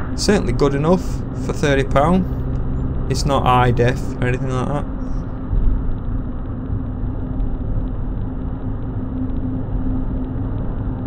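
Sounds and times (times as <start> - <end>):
car engine drone and tyre noise: 0.0 - 11.0.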